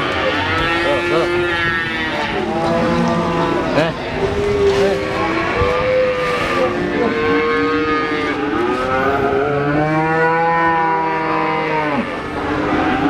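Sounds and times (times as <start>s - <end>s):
cattle mooing: 0.0s - 13.0s.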